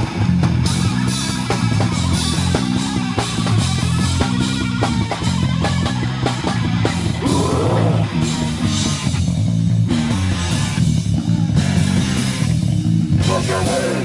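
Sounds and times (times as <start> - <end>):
bass guitar riffing: 0.0 - 14.0
distorted electric guitar riffing: 0.0 - 14.0
drums with cymbal crashes: 0.0 - 14.0.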